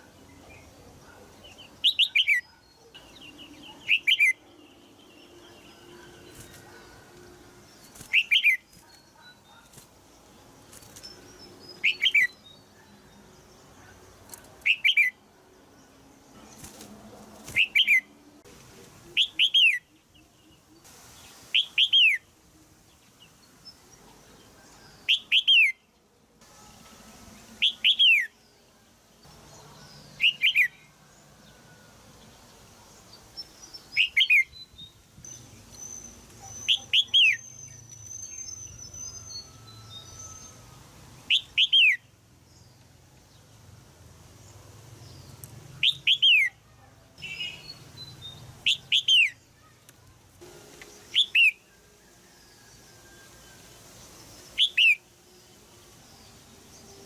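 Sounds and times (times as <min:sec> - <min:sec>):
bird chirping calls: 0:00.0 - 0:18.4, 0:19.0 - 0:22.3, 0:22.9 - 0:26.1, 0:27.3 - 0:43.5, 0:44.4 - 0:57.0.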